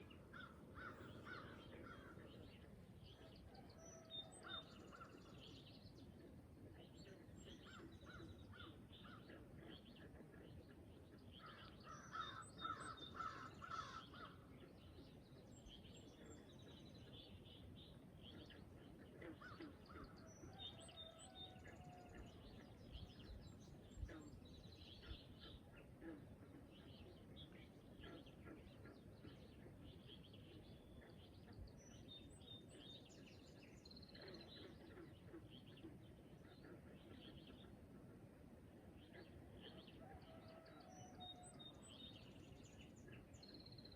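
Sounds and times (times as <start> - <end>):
birds calling and chirping: 0.0 - 37.9
low background hiss: 0.0 - 43.9.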